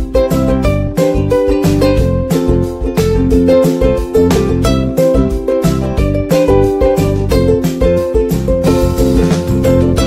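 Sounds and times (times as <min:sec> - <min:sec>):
plucked-string melody over beat: 0:00.0 - 0:10.0.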